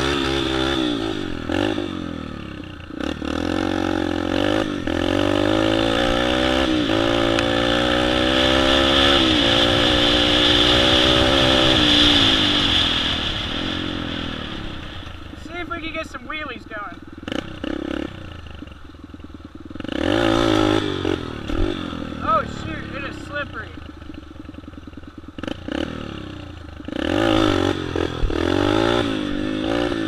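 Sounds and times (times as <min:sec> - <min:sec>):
dirt bike engine accelerating: 0:00.0 - 0:30.0.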